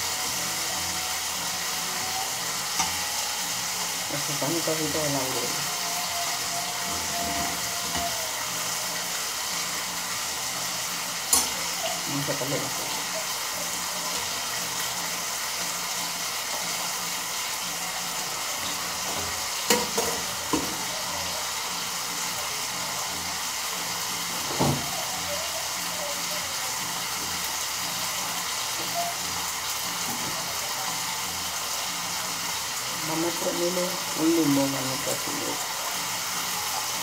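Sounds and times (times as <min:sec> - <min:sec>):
meat sizzling in oil: 0:00.0 - 0:37.0.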